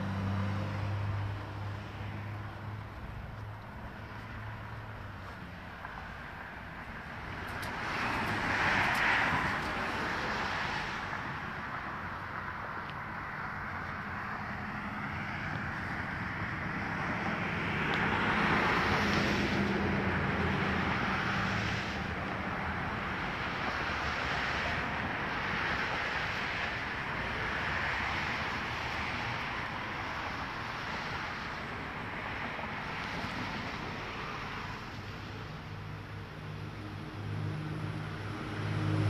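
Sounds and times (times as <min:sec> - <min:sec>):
vehicle rumble: 0:00.0 - 0:39.0.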